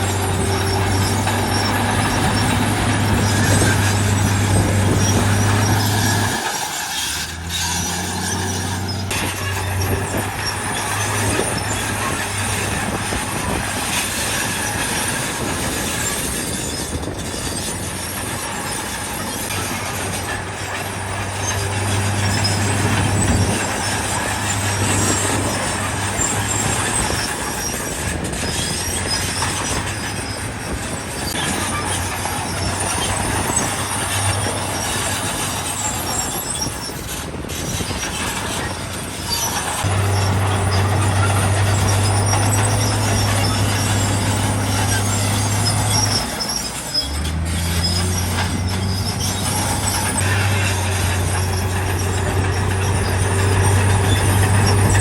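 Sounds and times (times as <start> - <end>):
diesel engine drone: 0.0 - 55.0
machinery grinding and rattling: 0.0 - 55.0.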